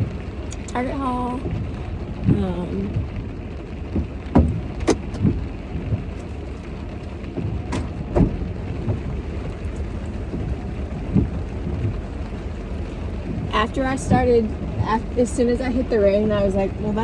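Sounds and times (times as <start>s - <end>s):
rain rumbling on car: 0.0s - 17.0s
raindrop ticks: 0.0s - 17.0s.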